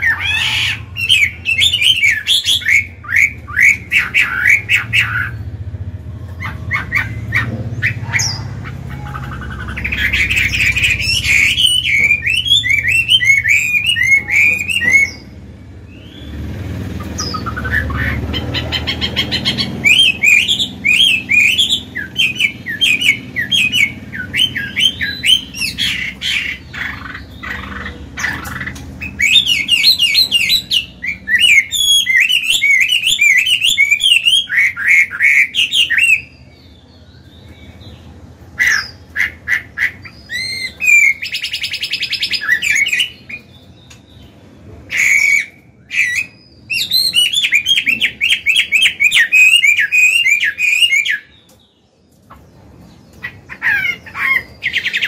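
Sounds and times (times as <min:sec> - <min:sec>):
bird singing warbled whistles: 0:00.0 - 0:05.5, 0:06.4 - 0:16.4, 0:17.1 - 0:36.5, 0:38.6 - 0:44.0, 0:44.9 - 0:51.3.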